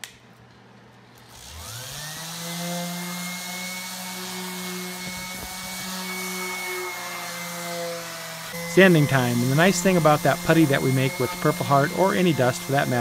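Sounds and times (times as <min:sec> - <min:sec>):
orbital sander running on wood: 0:01.3 - 0:13.0.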